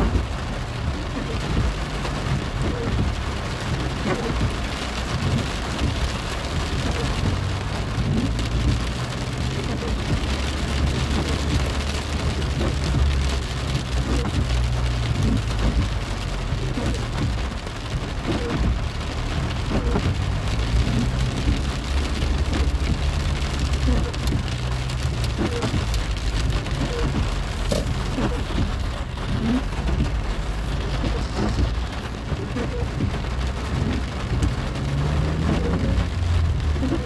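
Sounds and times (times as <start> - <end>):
low continuous rumble: 0.0 - 37.0
rain pattering on car: 0.0 - 37.0.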